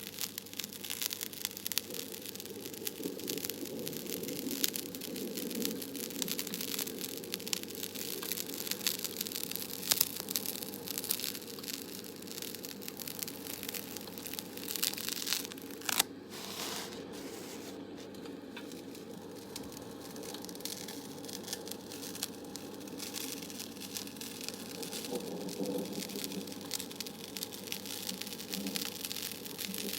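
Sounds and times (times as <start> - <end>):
crinkling and crackling: 0.0 - 29.9.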